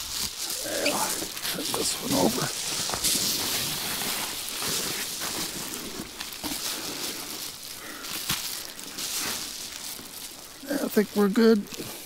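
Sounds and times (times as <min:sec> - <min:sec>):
foil insulation sheet crinkling: 0:00.0 - 0:12.0
sharp crackle: 0:00.0 - 0:12.0.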